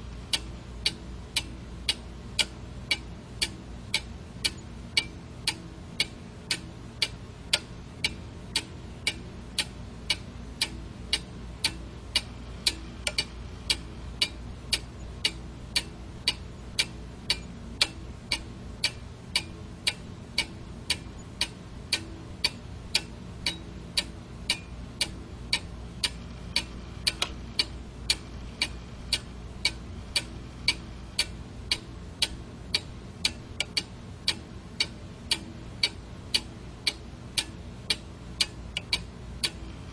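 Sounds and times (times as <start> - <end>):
faint low hum: 0.0 - 39.9
alarm clock ticking: 0.3 - 39.6.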